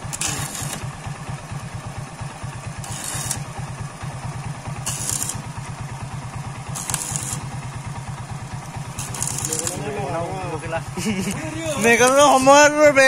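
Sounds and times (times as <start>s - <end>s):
arc welding crackle: 0.0s - 1.2s, 2.7s - 12.9s
motor running drone: 0.0s - 13.0s.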